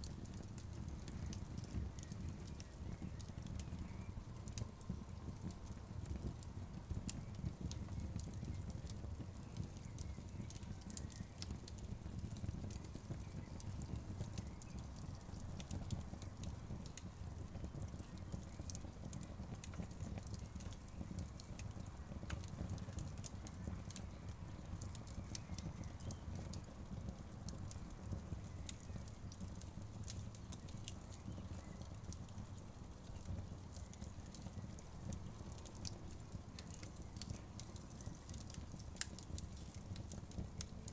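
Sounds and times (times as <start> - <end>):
crackles and pops of burning logs: 0.0 - 40.9
low rumble of flames: 0.0 - 40.9.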